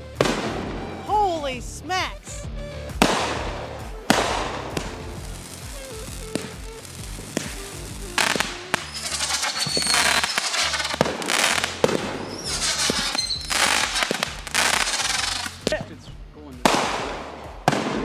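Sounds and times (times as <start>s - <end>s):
fireworks whistles: 0.0s - 1.6s, 2.2s - 18.0s
fireworks bangs: 0.0s - 18.0s
fireworks crackling: 0.0s - 18.0s.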